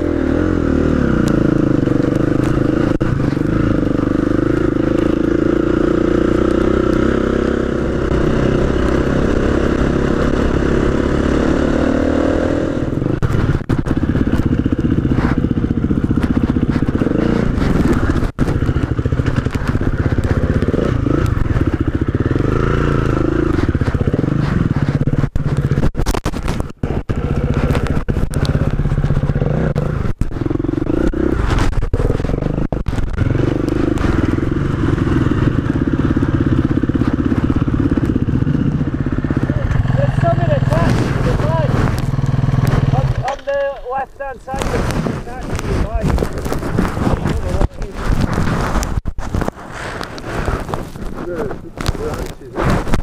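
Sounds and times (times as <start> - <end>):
trail bike engine revving: 0.0 - 53.0.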